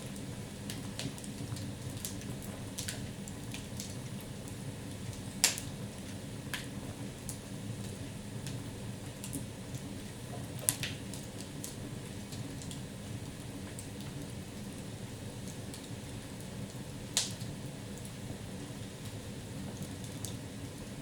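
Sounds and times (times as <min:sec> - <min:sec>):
low flame noise: 0:00.0 - 0:21.0
fire crackling and popping: 0:00.1 - 0:21.0.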